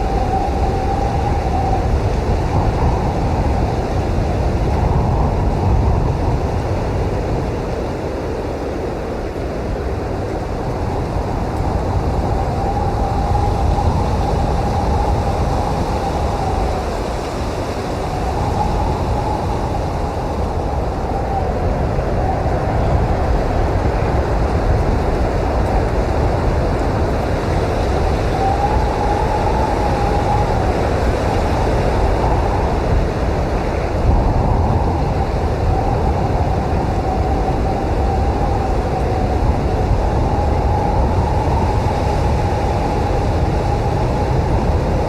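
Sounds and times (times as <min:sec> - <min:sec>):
blizzard wind rushing and whistling: 0:00.0 - 0:45.0.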